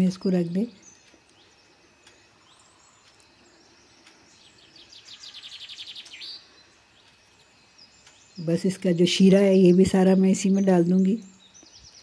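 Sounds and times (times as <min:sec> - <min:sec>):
faint scattered bird chirping: 0:00.0 - 0:12.0.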